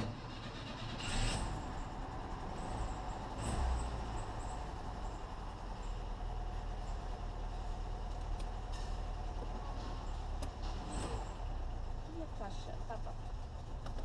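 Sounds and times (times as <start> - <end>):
car engine starting and rumbling: 0.0 - 14.0.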